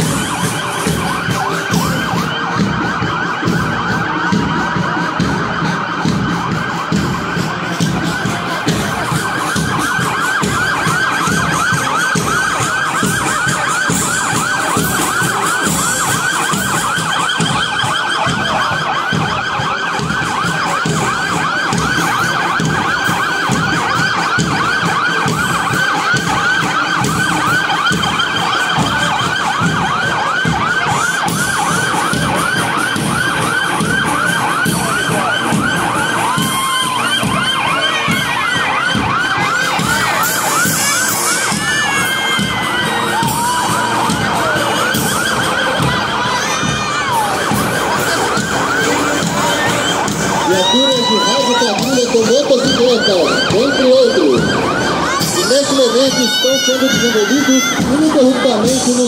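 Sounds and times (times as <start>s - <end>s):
police sirens yelping: 0.0s - 59.0s.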